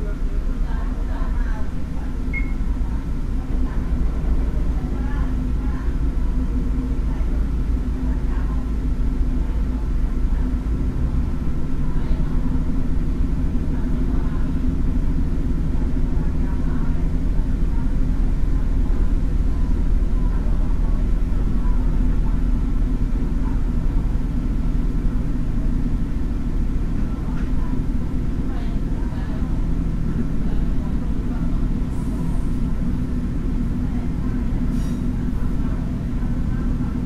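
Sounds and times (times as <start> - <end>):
diesel railcar engine rumbling: 0.0 - 37.0.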